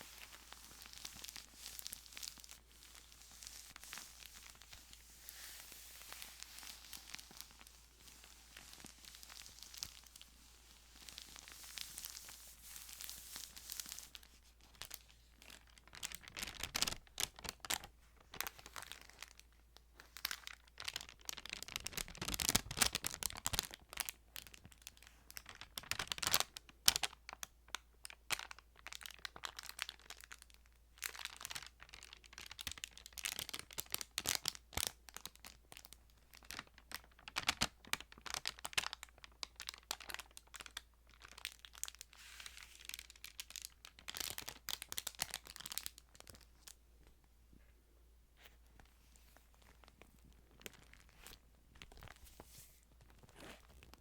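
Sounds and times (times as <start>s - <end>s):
thin pages crinkling and rustling: 0.0s - 24.7s, 31.0s - 46.8s, 48.4s - 54.0s.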